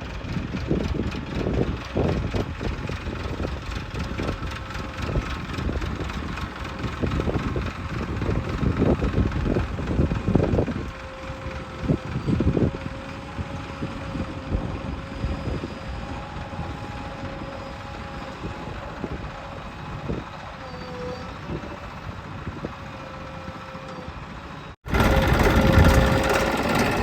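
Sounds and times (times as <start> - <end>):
backhoe diesel engine running: 0.0 - 27.0
hydraulic whine: 0.0 - 27.0.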